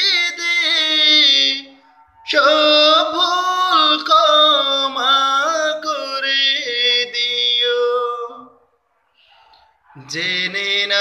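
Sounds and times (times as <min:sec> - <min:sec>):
man singing unaccompanied: 0:00.0 - 0:08.6, 0:10.0 - 0:11.0.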